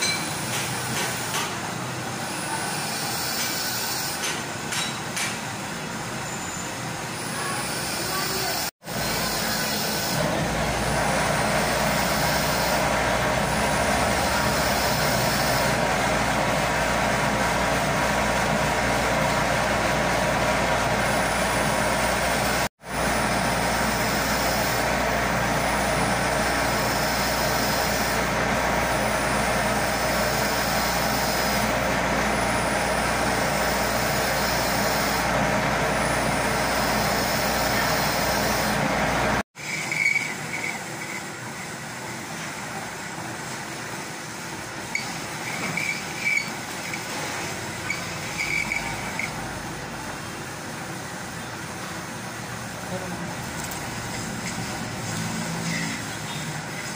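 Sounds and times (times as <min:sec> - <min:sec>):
metal lathe cutting metal: 0:00.0 - 0:05.0, 0:06.2 - 0:42.3, 0:44.8 - 0:56.9.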